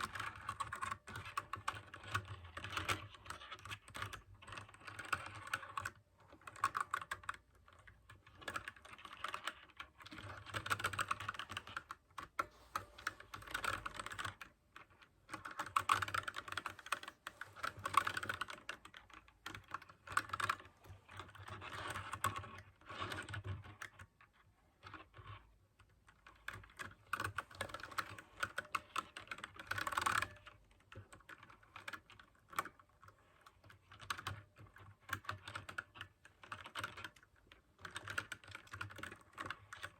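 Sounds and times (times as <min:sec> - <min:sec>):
typing on a mechanical keyboard: 0:00.0 - 0:39.9.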